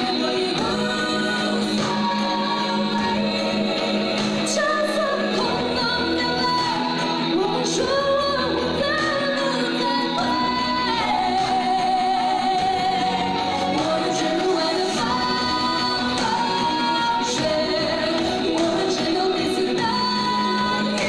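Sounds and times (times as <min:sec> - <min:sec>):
woman singing a ballad: 0:00.0 - 0:21.0.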